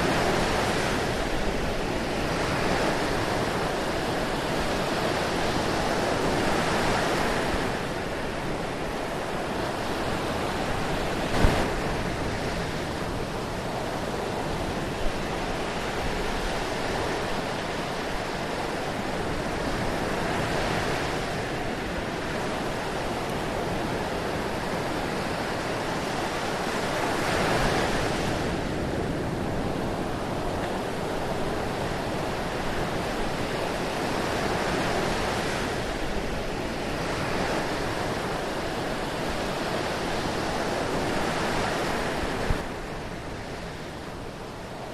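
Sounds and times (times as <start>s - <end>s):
rushing water: 0.0s - 44.9s.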